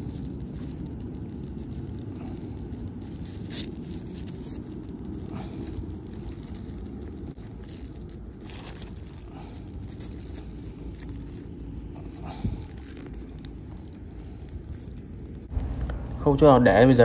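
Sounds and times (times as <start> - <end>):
insect chirping trills: 0.0 - 17.0
steady low rumble: 0.0 - 17.0.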